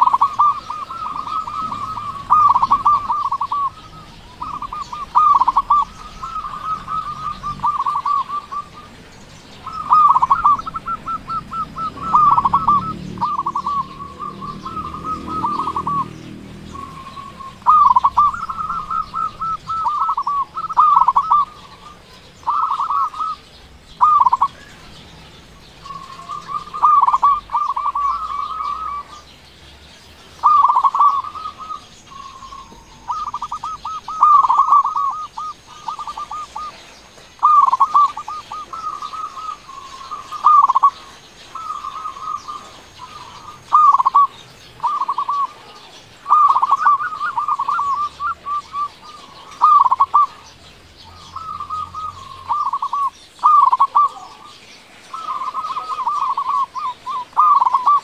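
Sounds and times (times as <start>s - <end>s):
dove cooing: 0.0s - 29.4s, 30.2s - 58.0s.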